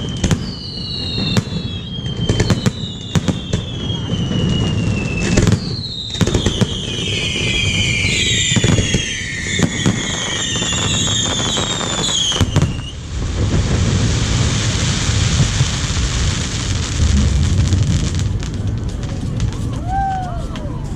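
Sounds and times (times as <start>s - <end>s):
fireworks bangs and pops: 0.0s - 20.9s
fireworks crackling hiss: 0.0s - 20.9s
fireworks whistling: 0.0s - 20.9s.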